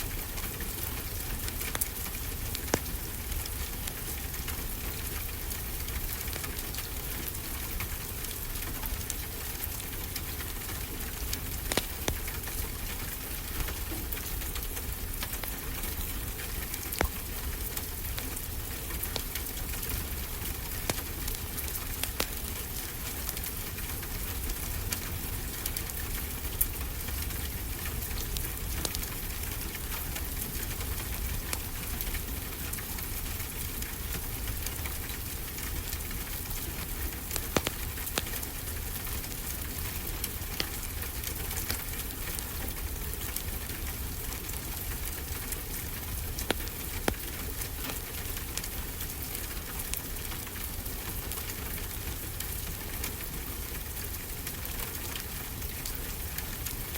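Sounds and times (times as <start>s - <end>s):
steady rain pattering: 0.0s - 56.9s
wood fire crackling and popping: 0.0s - 56.9s.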